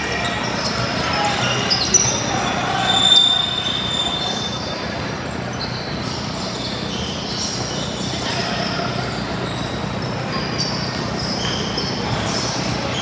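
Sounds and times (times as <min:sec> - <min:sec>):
background hubbub: 0:00.0 - 0:13.0
sneaker squeaks: 0:00.0 - 0:13.0.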